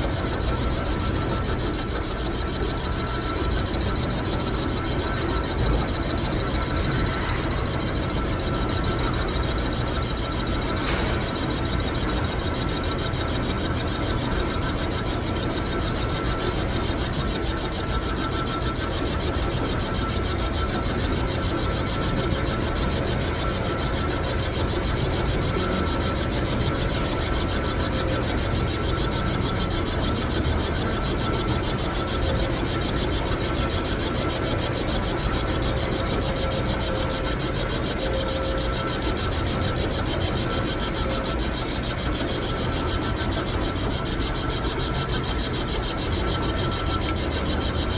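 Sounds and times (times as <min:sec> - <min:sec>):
metal lathe scraping: 0:00.1 - 0:47.9.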